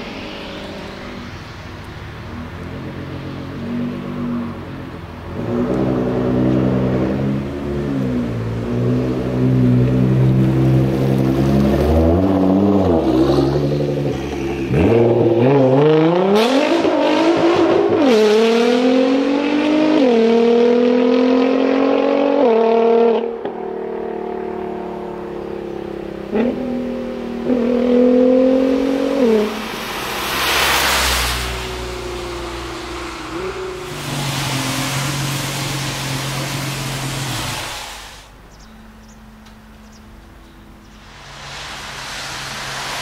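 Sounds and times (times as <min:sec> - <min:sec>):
sports car engine accelerating: 0:02.5 - 0:37.5.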